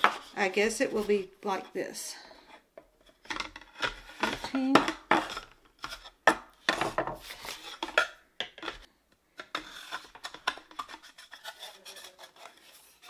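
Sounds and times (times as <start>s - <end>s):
wooden panels scraping: 2.4s - 13.0s.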